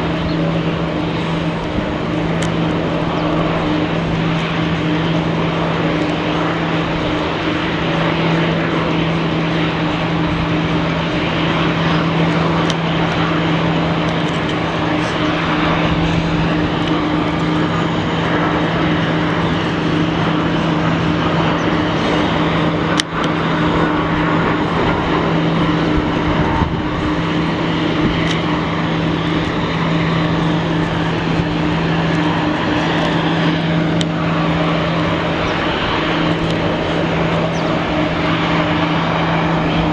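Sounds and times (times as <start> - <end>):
jet engine noise: 0.0 - 39.9
low hum: 0.0 - 39.9.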